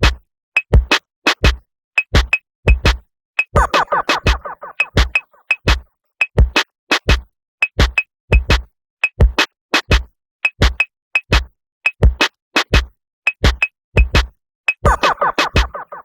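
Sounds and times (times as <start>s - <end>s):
electronic lo-fi beat: 0.0s - 16.0s.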